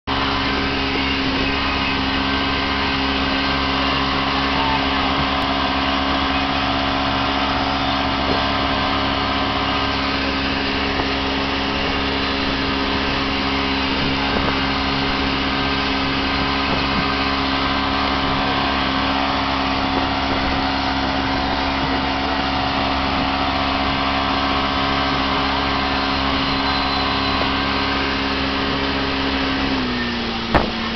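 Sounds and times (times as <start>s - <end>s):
outboard motor running: 0.0s - 30.9s
rush of water from wake: 0.0s - 30.9s.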